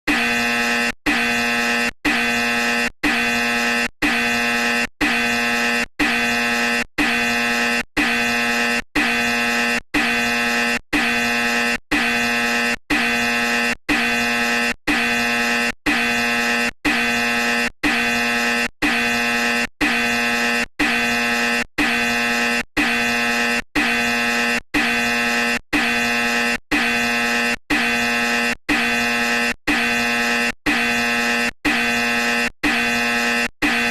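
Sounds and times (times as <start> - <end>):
harsh horn blasts: 0.1 - 33.9.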